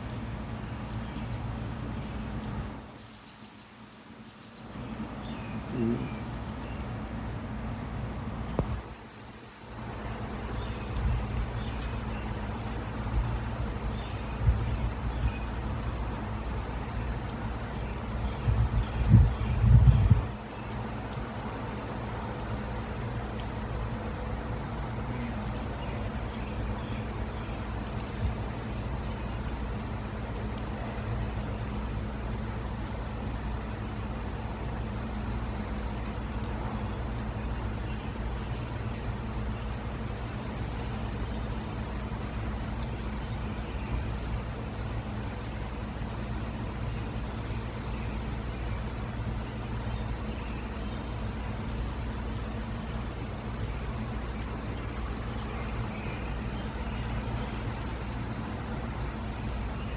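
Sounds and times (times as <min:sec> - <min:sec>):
low engine hum: 0:04.3 - 0:59.9.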